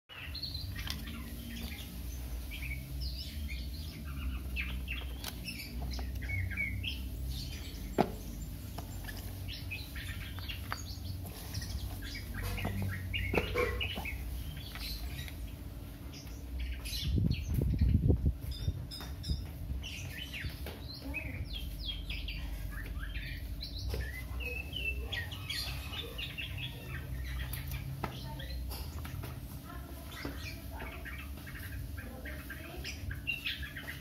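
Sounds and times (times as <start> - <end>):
small birds chirping: 0.1 - 34.0.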